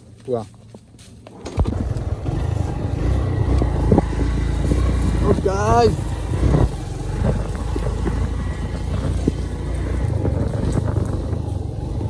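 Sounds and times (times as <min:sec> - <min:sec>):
wind rumbling on microphone: 0:01.3 - 0:12.0.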